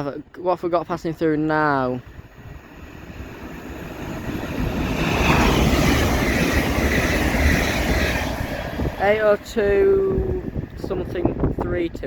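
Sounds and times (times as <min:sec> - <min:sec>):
train passing at speed: 0:00.6 - 0:12.0.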